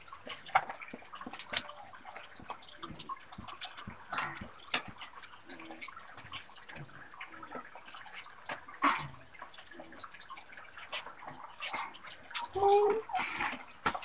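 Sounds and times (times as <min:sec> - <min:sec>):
liquid splashing and dripping: 0:00.0 - 0:14.0.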